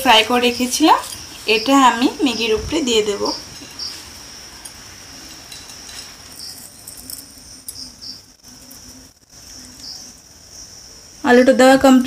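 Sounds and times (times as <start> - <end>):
insect-like chirring: 0.0 - 12.0.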